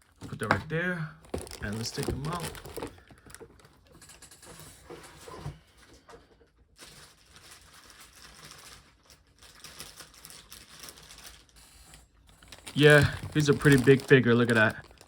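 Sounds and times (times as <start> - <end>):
packaging rustling and clicking: 0.0 - 15.0.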